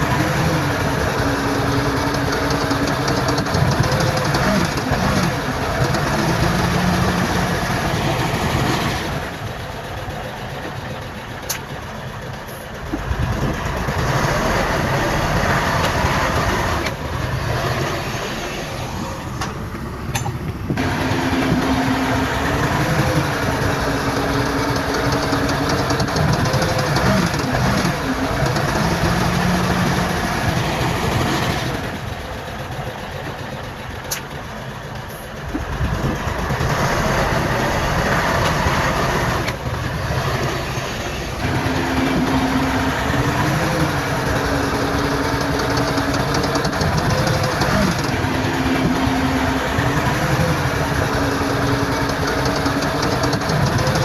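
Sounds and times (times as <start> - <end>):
heavy diesel engines revving: 0.0 - 54.0.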